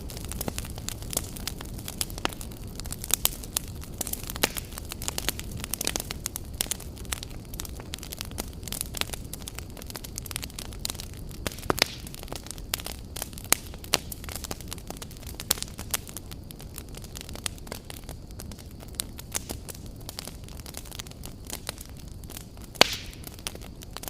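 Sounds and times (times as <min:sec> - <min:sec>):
burning logs crackling and popping: 0:00.0 - 0:24.0
low rumble of flame: 0:00.0 - 0:24.0.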